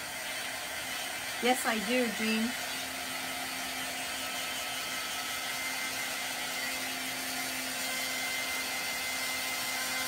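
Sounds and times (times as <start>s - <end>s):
handheld dryer blowing air: 0.0s - 10.0s.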